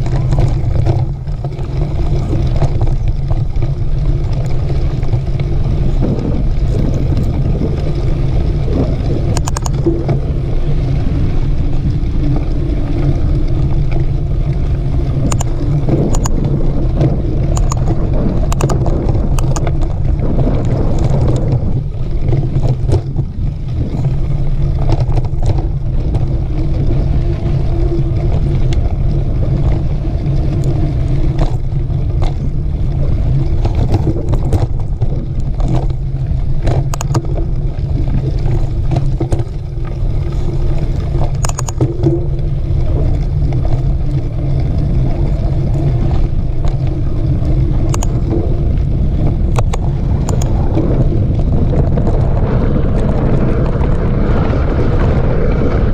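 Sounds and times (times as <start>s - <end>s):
bike clicks and rattles: 0.0s - 55.9s
wind rumble on microphone: 0.0s - 55.9s.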